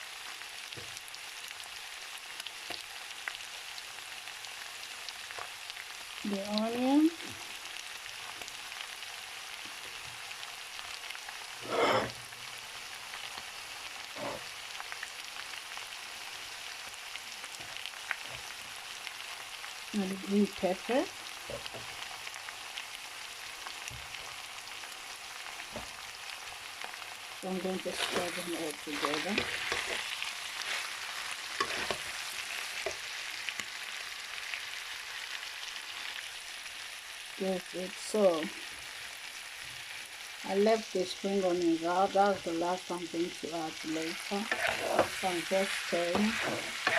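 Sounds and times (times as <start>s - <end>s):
vegetables sizzling in a wok: 0.0s - 46.9s.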